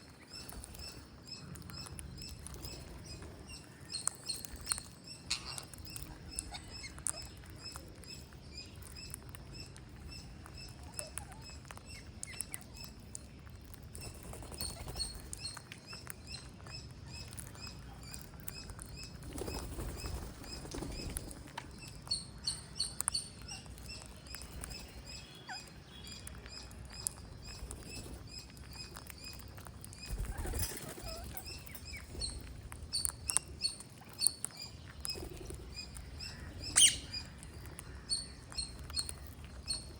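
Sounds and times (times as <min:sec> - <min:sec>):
parrots chirping: 0:00.2 - 0:13.0, 0:13.9 - 0:39.9.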